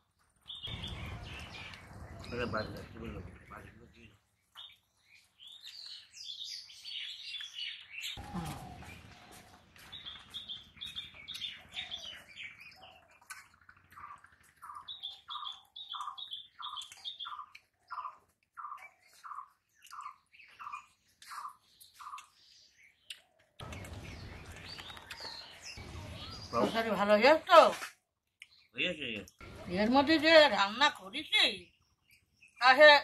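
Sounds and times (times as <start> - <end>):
birds chirping: 0.0 - 27.7, 28.4 - 33.0.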